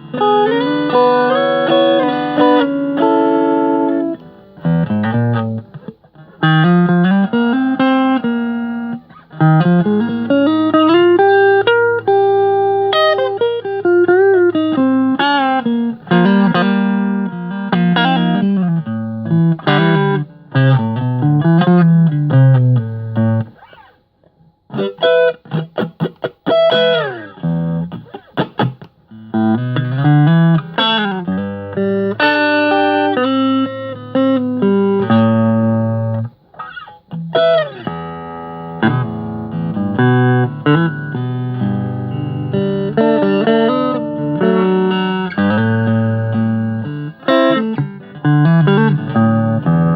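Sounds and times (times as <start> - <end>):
choppy guitar strums: 0.0 - 24.0, 24.7 - 49.9
electric guitar notes and chords: 0.0 - 24.0, 24.6 - 49.9.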